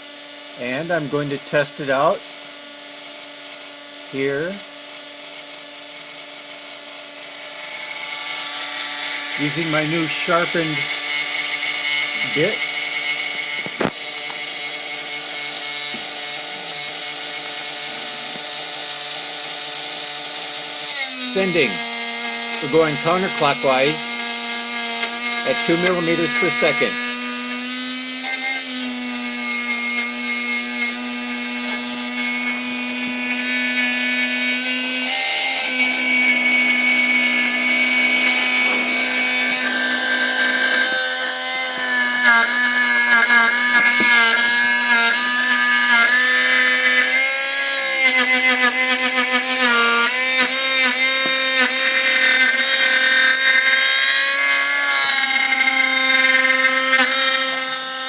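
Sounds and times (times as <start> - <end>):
spindle motor running: 0.0 - 58.0.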